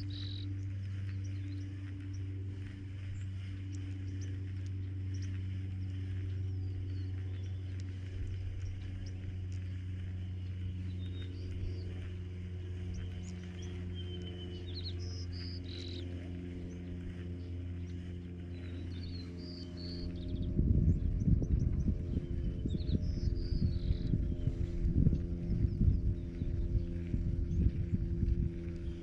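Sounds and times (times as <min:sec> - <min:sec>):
small birds chirping: 0:00.0 - 0:29.0
steady low hum: 0:00.0 - 0:29.0.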